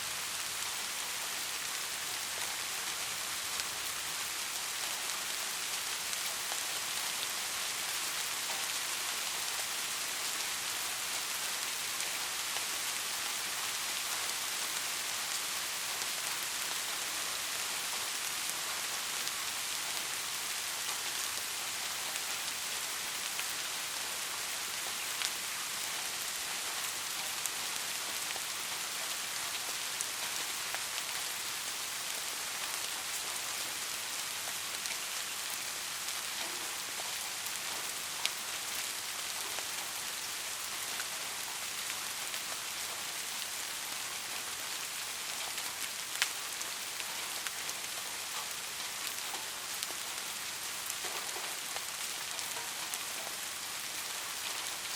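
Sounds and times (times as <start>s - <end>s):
close raindrops striking: 0.0s - 54.9s
steady rain falling: 0.0s - 54.9s.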